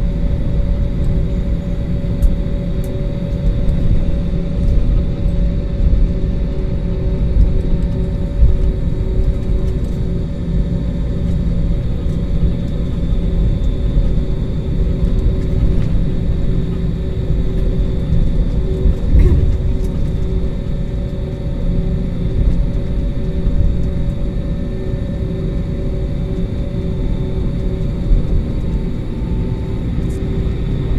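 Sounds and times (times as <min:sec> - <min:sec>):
jet engine rumble in cabin: 0:00.0 - 0:30.9.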